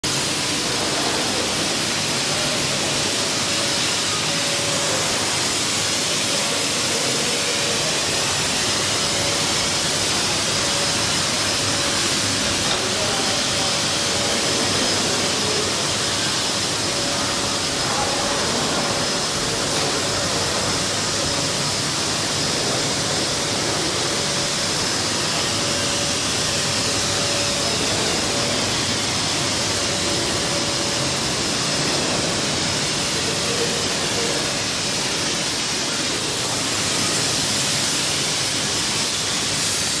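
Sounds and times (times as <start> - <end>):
electric air blower running: 0.1 - 40.0.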